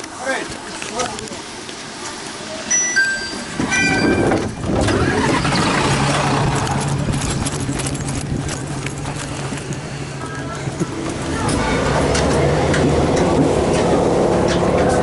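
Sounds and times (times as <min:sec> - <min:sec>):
diesel railcar engine hum: 0:01.4 - 0:15.0.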